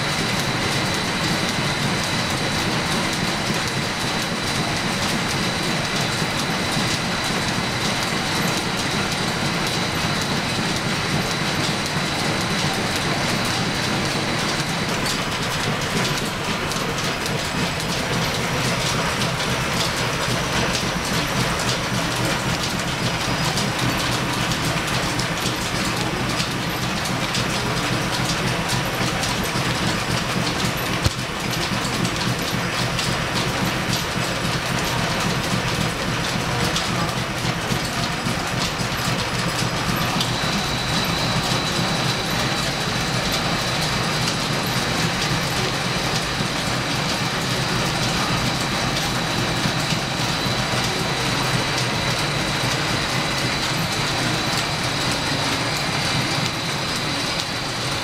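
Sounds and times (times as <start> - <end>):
machinery rhythmic clatter: 0.0 - 58.0.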